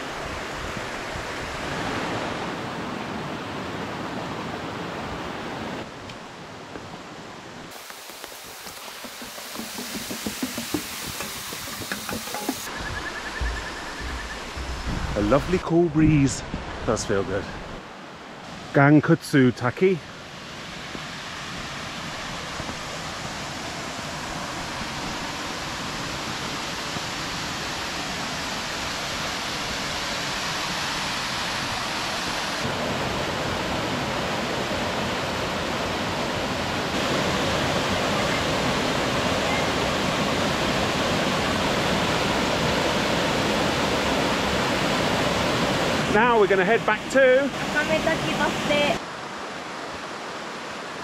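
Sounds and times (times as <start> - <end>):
waterfall rushing into pool: 0.0 - 17.5, 18.4 - 51.0.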